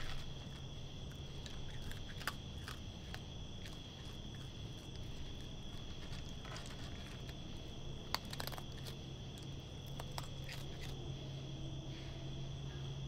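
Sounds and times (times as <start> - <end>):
raccoon crunching dry kibble: 0.0 - 11.1
crickets chirring: 0.0 - 13.0.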